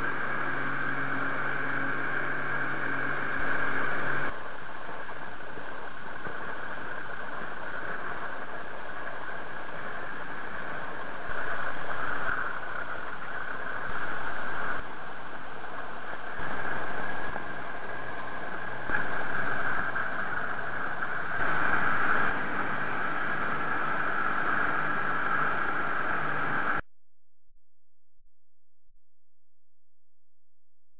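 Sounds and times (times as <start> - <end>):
boat engine running: 0.0 - 26.8.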